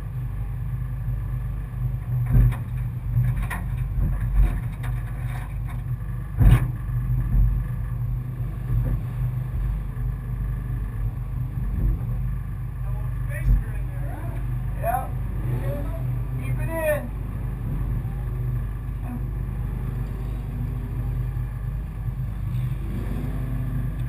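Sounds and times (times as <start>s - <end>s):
race car engine idling: 0.0s - 24.0s.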